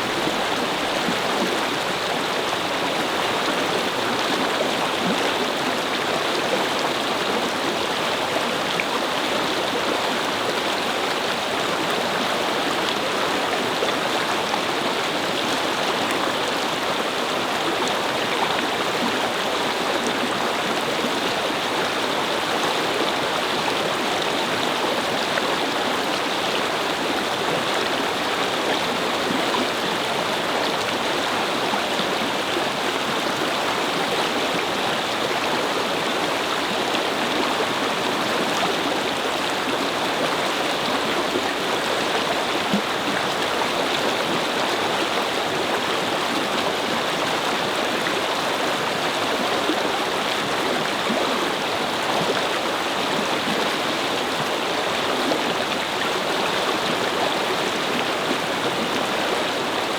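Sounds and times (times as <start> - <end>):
brook water flowing over stones: 0.0 - 59.9.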